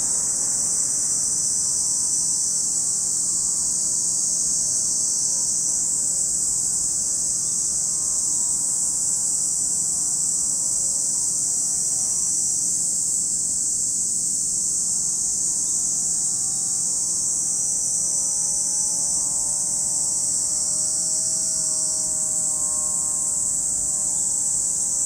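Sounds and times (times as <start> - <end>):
cicadas shrilling: 0.0 - 25.0.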